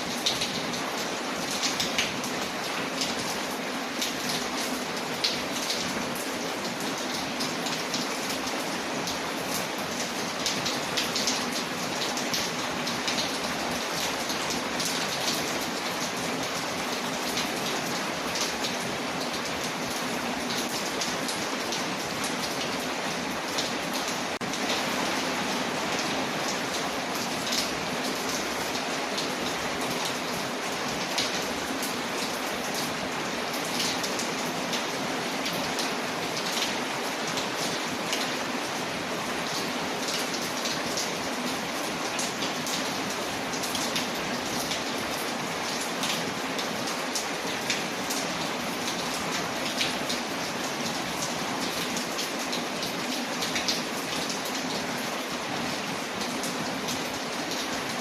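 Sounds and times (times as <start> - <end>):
rain on a window: 0.0 - 58.0.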